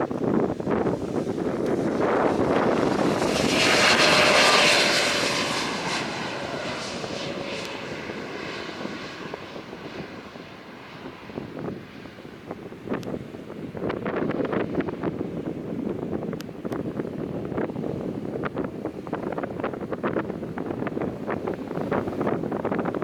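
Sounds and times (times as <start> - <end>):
airliner engines flying past: 0.0 - 23.0.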